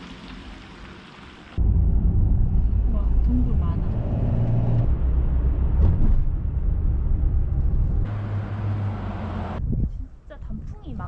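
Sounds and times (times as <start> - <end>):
car road and engine noise: 0.0 - 9.7.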